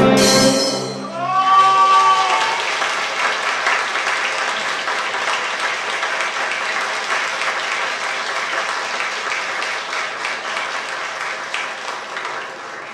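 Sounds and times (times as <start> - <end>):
audience applauding: 1.3 - 12.9.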